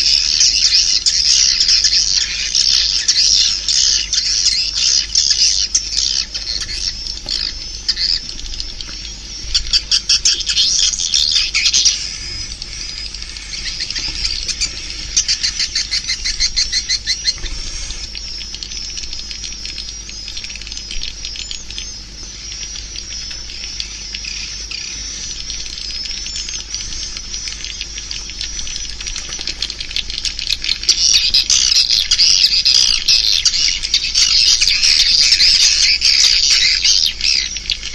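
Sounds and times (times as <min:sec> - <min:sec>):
swiftlets twittering: 0:00.0 - 0:37.9.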